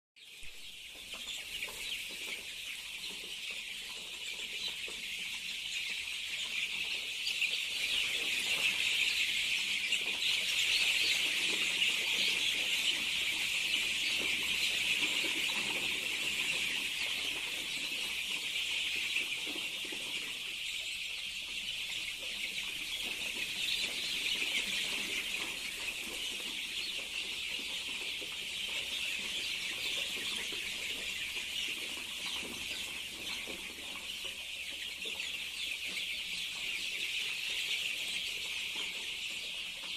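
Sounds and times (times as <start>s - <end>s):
chickens clucking: 0.2s - 39.9s
chickens high-pitched chorus: 0.2s - 39.9s.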